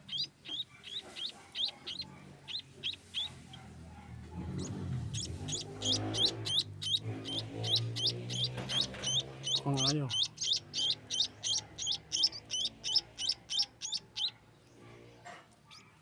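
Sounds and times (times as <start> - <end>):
young birds chirping: 0.0 - 16.0.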